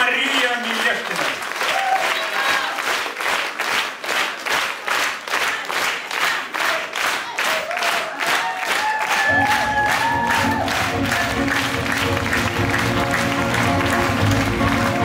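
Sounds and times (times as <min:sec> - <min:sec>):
crowd clapping in rhythm: 0:00.0 - 0:15.0.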